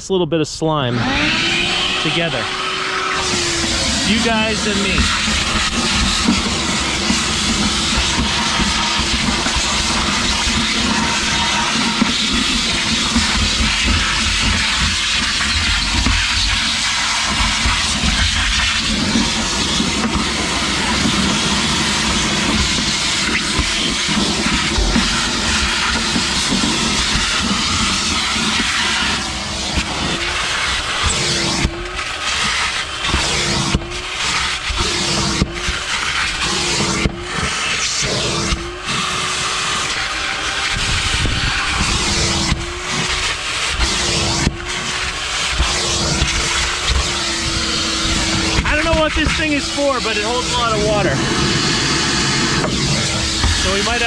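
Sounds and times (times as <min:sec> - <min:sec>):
vacuum cleaner running: 0:00.9 - 0:54.0.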